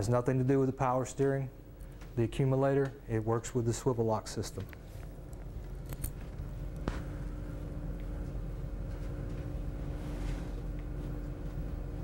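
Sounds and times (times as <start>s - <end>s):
low room hum and rumble: 0.0s - 12.0s.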